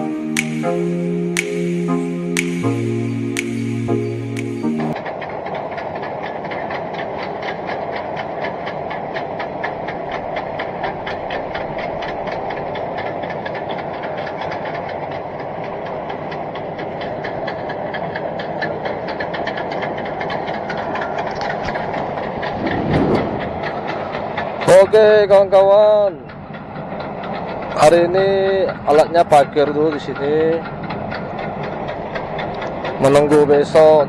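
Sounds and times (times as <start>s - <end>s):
excavator engine running: 2.4s - 34.0s.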